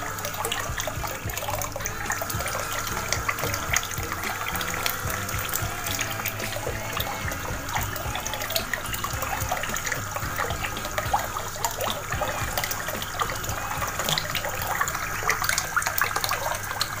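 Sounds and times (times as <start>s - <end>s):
steady low hum: 0.0s - 16.8s
water splashing and trickling: 0.0s - 17.0s.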